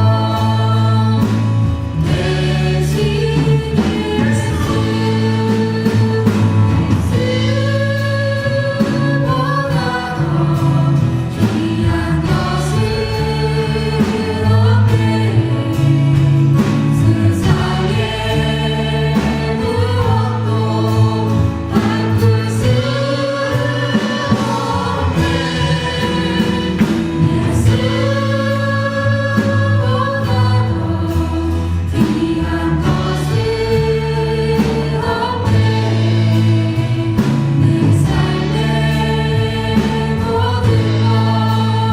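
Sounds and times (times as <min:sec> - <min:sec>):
band with bass and drums: 0:00.0 - 0:41.9
group singing gospel song: 0:00.0 - 0:41.9.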